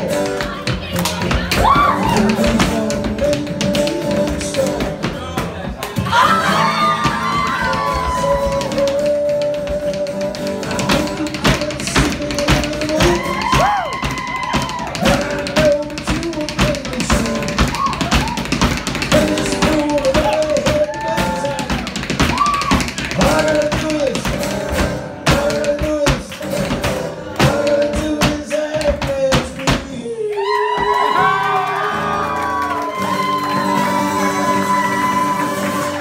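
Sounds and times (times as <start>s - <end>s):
step-dance beats clattering: 0.0s - 6.2s, 6.9s - 30.0s
irish dance music: 0.0s - 30.0s.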